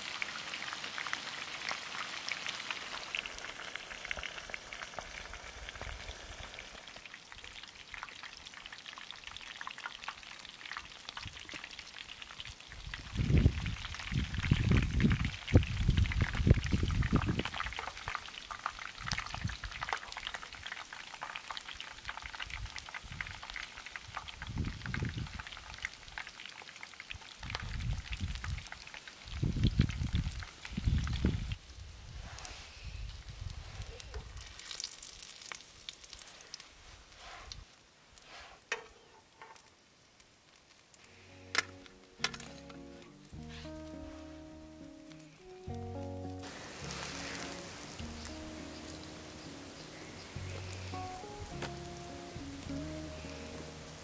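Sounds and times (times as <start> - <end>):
food frying with crackling sizzle: 0.0 - 54.0.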